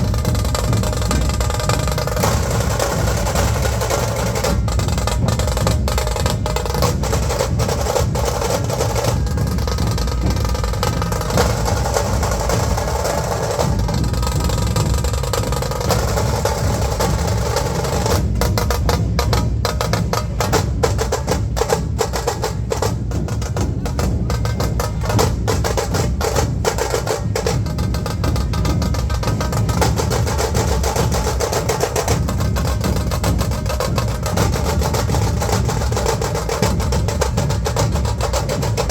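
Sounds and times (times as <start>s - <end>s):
drums beating fast rhythm: 0.0s - 38.9s.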